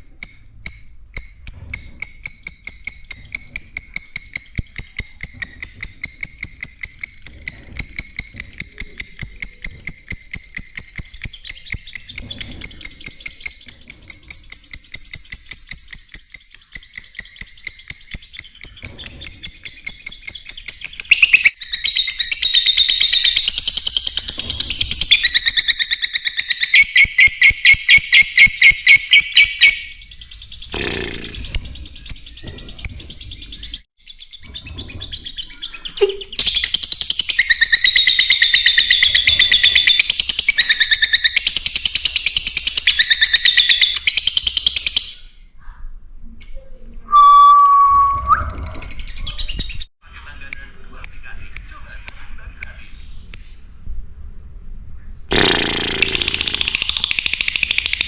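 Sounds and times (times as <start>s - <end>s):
lovebirds chirping: 0.0s - 45.5s, 46.4s - 53.8s.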